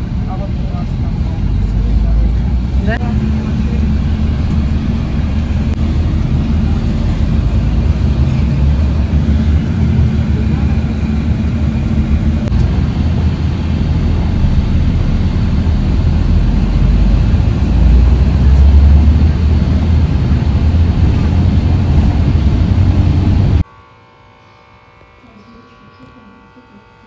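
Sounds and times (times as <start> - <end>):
bus engine and road rumble: 0.0 - 23.6.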